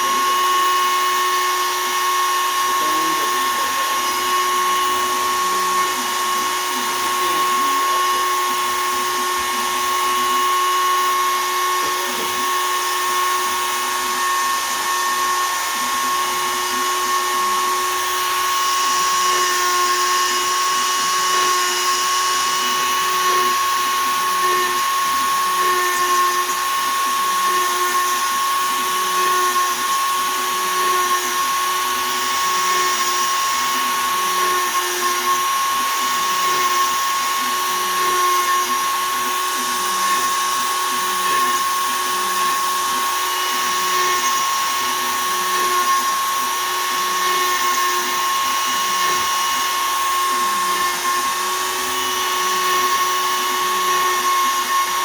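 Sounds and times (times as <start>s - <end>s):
hiss of bit cutting wood: 0.0s - 55.0s
router spindle high-pitched whine: 0.0s - 55.0s.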